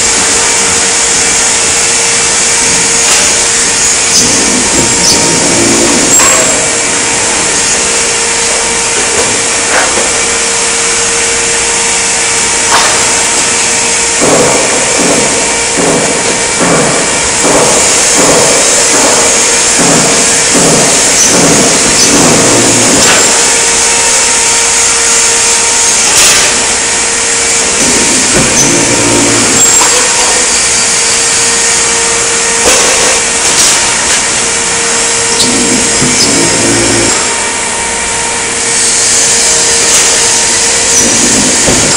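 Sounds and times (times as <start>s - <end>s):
hydraulic press brake running: 0.0s - 41.9s
steady machine hum: 0.0s - 41.9s.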